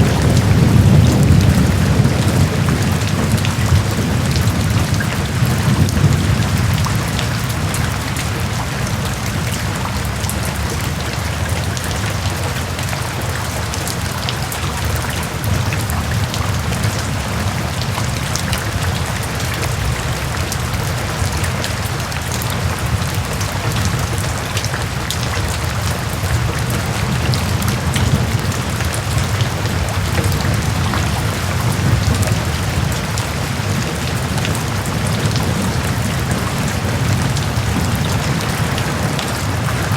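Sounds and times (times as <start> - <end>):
heavy rain: 0.0 - 39.9
raindrops ticking: 0.0 - 39.9.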